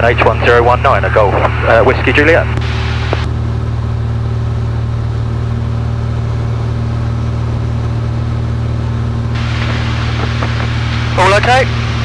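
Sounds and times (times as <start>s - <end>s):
airplane engine droning in cabin: 0.0s - 12.0s.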